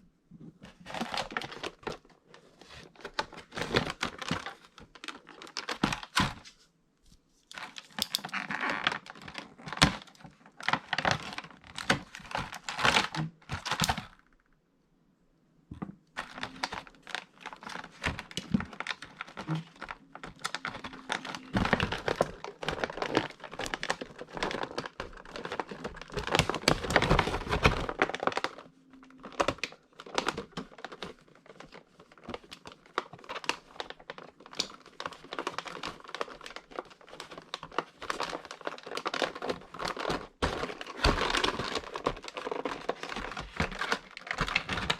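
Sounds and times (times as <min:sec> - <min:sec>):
plastic and cardboard crinkling: 0:00.4 - 0:14.3, 0:15.8 - 0:44.9.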